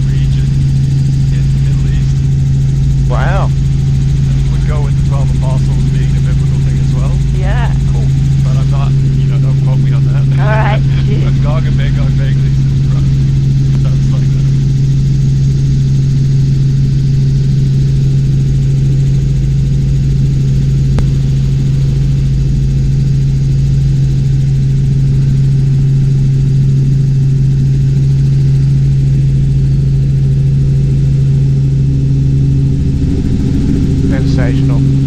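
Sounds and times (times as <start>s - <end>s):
helicopter rotors and engine drone: 0.0s - 35.0s.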